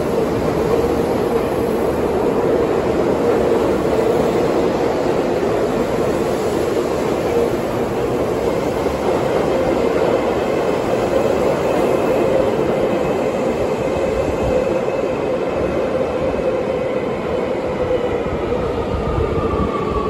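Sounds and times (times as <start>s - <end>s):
electric train rumbling in tunnel: 0.0s - 20.0s.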